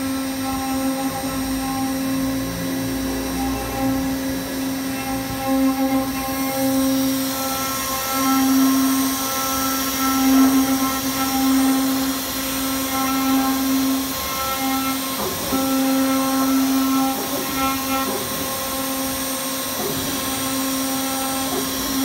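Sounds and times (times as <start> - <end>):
spindle motor whining: 0.0 - 22.0.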